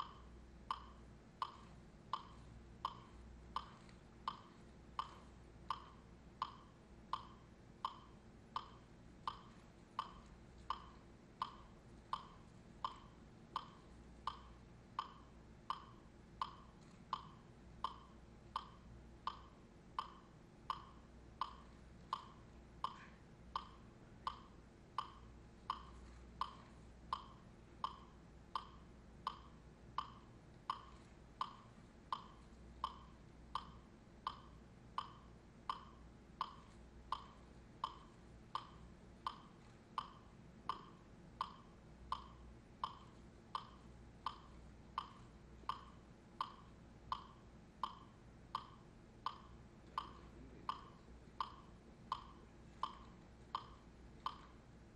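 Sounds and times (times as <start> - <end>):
faint low hum: 0.0 - 54.9
metronome ticking: 0.0 - 54.9.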